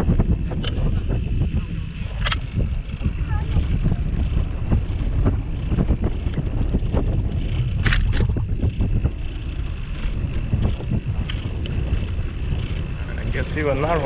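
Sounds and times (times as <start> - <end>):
bicycle knocks and rattles: 0.0 - 14.0
wind rumbling on microphone: 0.0 - 14.0.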